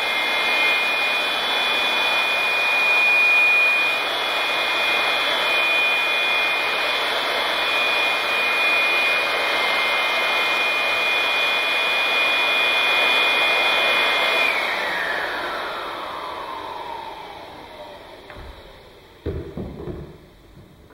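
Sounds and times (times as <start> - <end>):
blowers running: 0.0 - 20.9.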